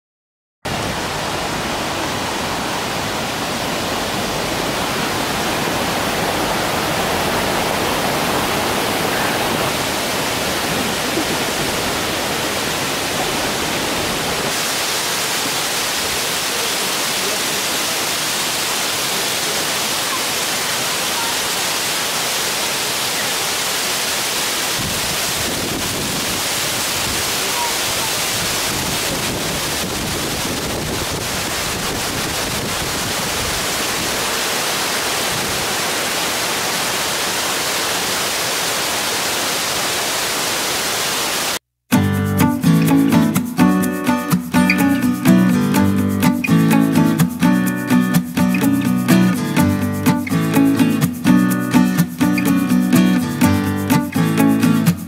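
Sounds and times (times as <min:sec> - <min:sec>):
waterfall rushing: 0:00.7 - 0:41.6, 0:42.3 - 0:55.0.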